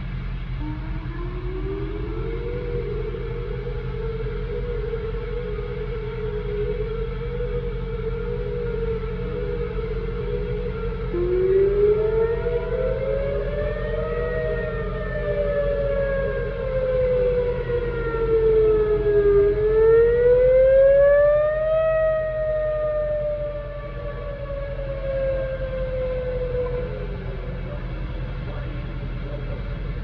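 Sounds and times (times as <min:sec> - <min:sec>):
other sirens: 0:00.0 - 0:30.0
warning siren wailing: 0:00.0 - 0:30.0.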